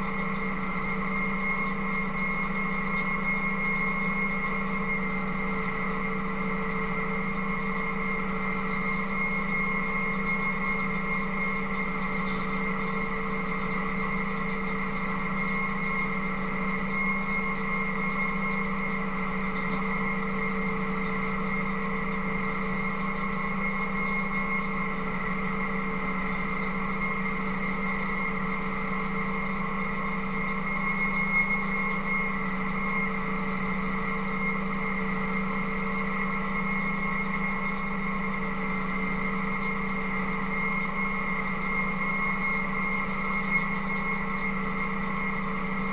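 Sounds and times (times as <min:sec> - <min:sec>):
bale feeder mechanical drone: 0:00.0 - 0:45.9.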